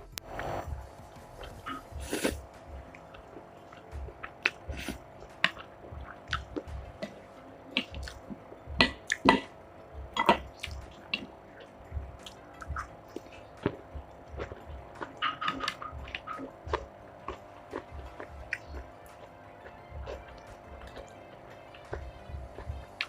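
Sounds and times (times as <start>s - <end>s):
person chewing and slurping noodles: 0.3s - 23.0s.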